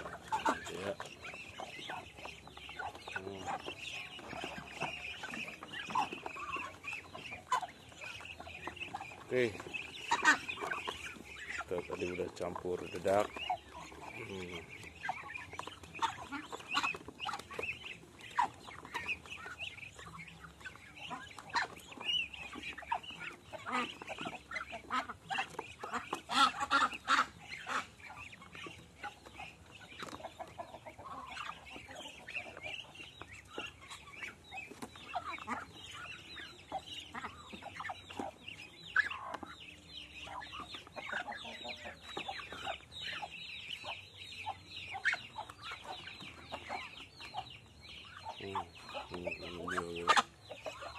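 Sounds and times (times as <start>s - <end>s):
beaks pecking on basin: 0.0s - 50.9s
ducks chirping calls: 0.0s - 50.9s.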